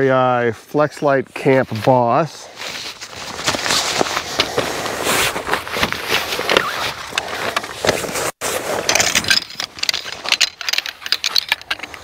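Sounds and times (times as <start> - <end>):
camping gear rustling and scraping: 0.4 - 12.0.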